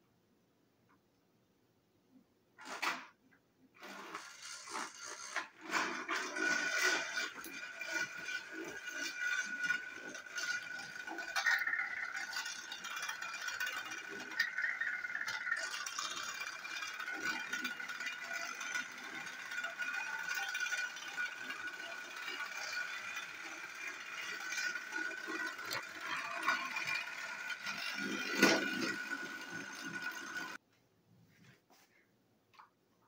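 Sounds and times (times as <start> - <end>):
toy train motor whine: 3.8 - 30.6
wheels clicking over rails: 3.8 - 30.6.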